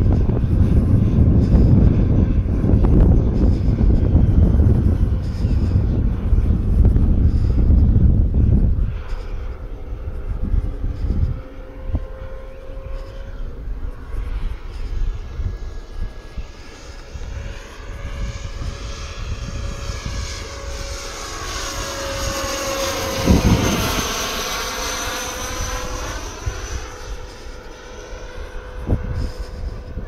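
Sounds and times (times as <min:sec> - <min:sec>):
model airplane engines whining: 0:00.0 - 0:30.0
wind rumbling on microphone: 0:00.0 - 0:30.0.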